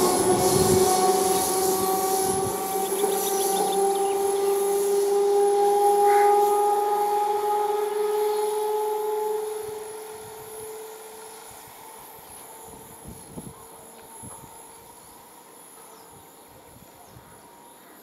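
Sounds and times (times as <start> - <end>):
electric train motor whine: 0.0 - 18.0.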